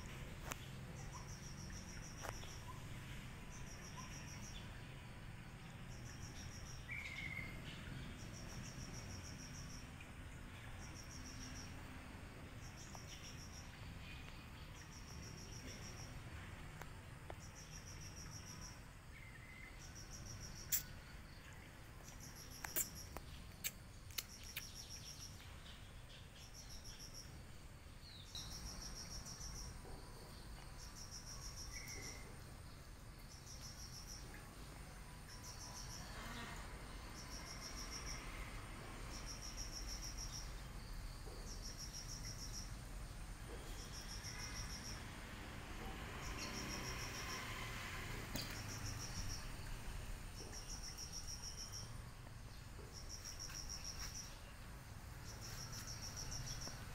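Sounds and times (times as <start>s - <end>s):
insect chirping: 0.0s - 56.9s.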